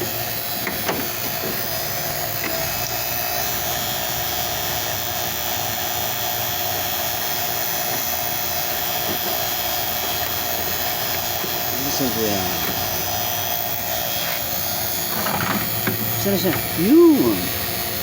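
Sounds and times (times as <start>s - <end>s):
vacuum pump motor hum: 0.0s - 18.0s.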